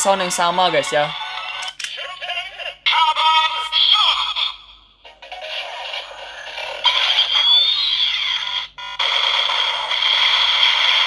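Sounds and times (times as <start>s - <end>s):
tinny electronic toy music loop: 0.4s - 11.0s.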